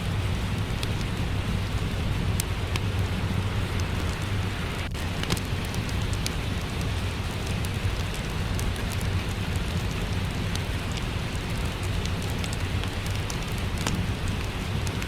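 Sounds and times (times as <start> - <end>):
low even rumble: 0.0 - 15.0
rain hissing: 0.0 - 15.0
wood fire popping and crackling: 0.0 - 15.0.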